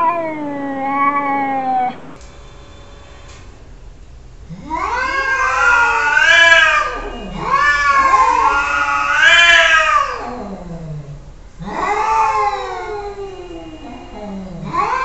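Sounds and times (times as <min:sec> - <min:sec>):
cats yowling: 0:00.0 - 0:02.2, 0:04.5 - 0:15.0.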